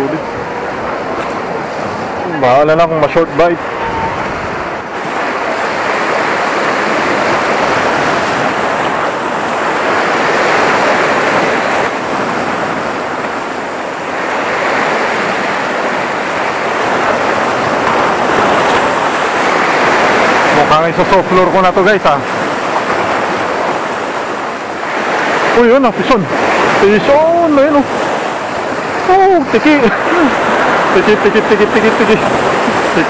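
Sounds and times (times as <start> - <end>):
surf breaking on rocky shore: 0.0 - 33.0.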